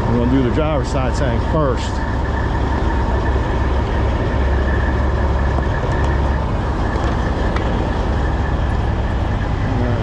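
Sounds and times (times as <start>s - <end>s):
faint steady whine: 0.0s - 10.0s
truck engine idling: 0.0s - 10.0s.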